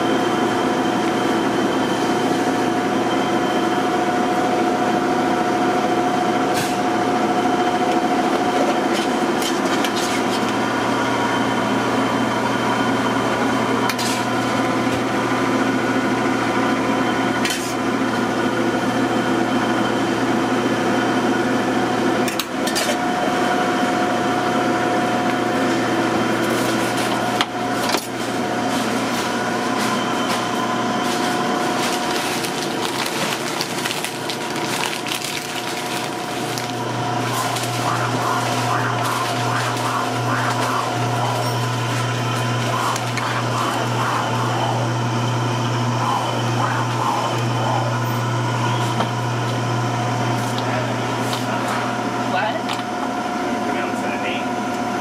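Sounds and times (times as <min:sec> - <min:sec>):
kitchen machinery hum: 0:00.0 - 0:55.0.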